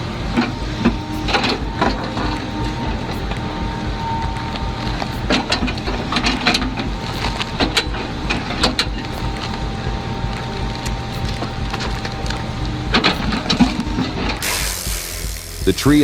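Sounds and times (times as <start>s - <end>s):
machine engine drone: 0.0s - 16.0s.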